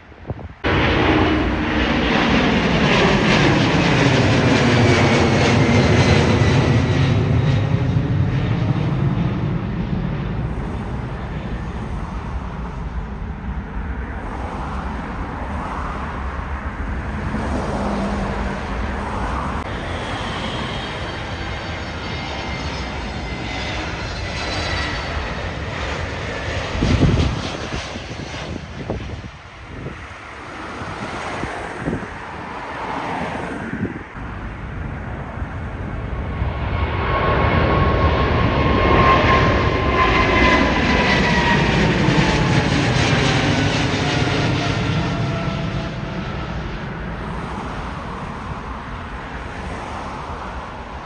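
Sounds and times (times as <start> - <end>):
jet engines of passing plane: 0.0 - 51.0.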